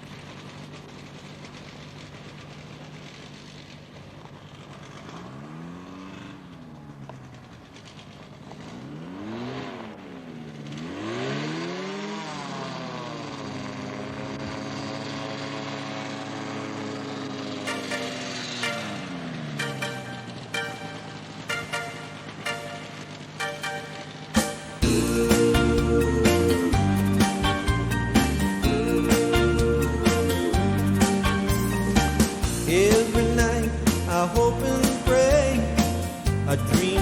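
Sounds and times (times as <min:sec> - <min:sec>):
model airplane engine running: 0:00.0 - 0:34.0.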